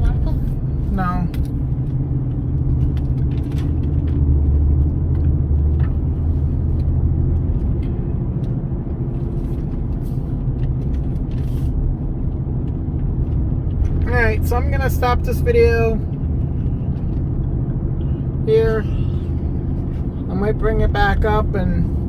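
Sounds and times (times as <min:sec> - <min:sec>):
car engine and road drone: 0:00.0 - 0:22.0.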